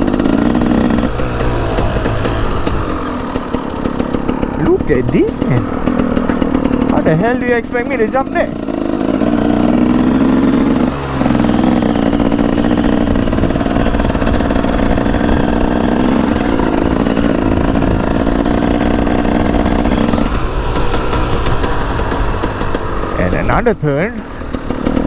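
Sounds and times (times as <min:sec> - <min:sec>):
dirt bike engine running: 0:00.0 - 0:25.0.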